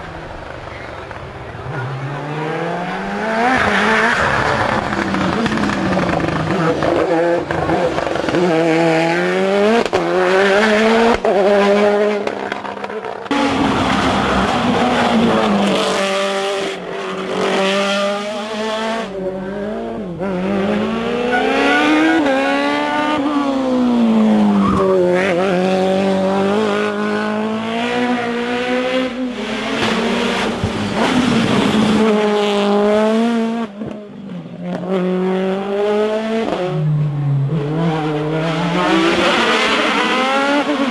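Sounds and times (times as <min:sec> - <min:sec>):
racing car engines revving: 0:00.0 - 0:40.9.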